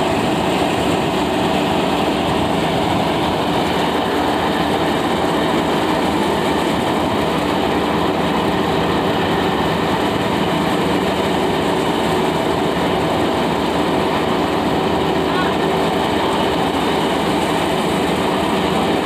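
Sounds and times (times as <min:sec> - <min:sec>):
thresher rattling and humming: 0:00.0 - 0:19.0.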